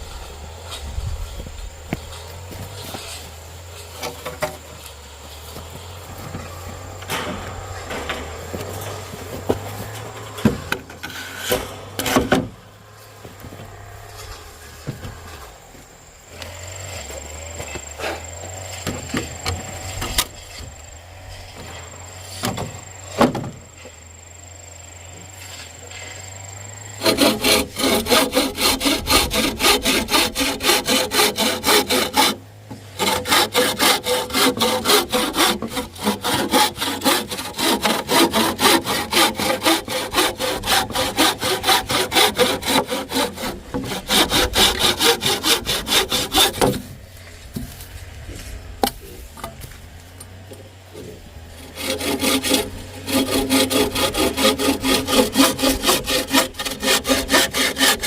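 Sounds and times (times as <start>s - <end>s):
hand saw cutting wood: 0.0s - 15.5s, 16.3s - 24.1s, 25.0s - 49.8s, 50.4s - 58.0s.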